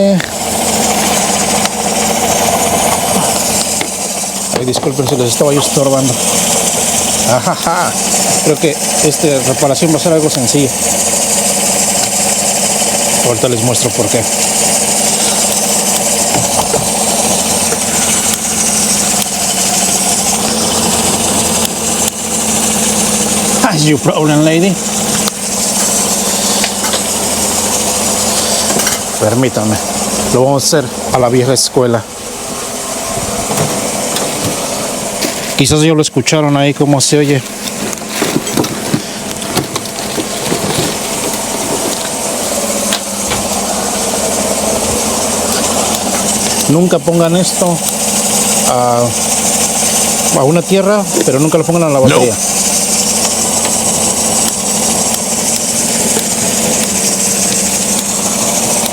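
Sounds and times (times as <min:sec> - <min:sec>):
car engine idling with misfire: 0:00.0 - 0:58.9.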